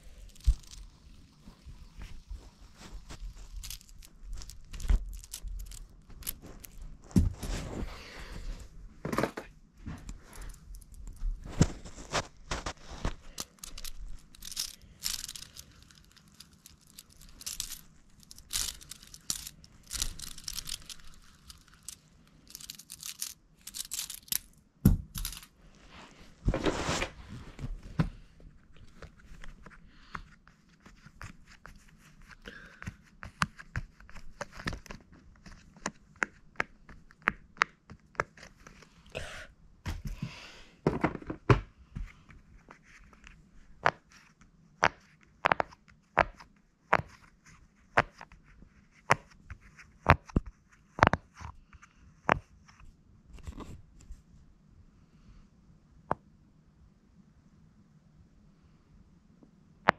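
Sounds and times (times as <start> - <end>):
rustling and handling noises: 0.0 - 39.2, 39.8 - 54.5.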